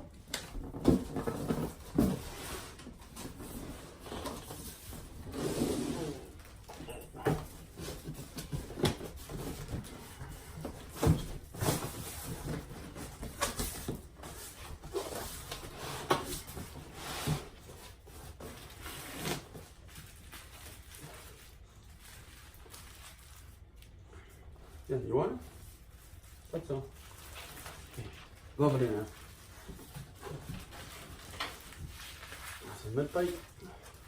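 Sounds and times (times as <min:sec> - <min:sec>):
box and packaging rustling: 0:00.0 - 0:34.0.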